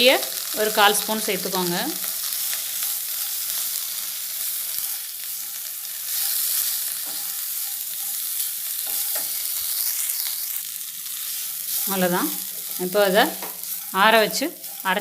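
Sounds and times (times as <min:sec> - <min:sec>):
spices sizzling in ghee: 0:00.0 - 0:15.0
spatula scraping a pan: 0:02.2 - 0:15.0.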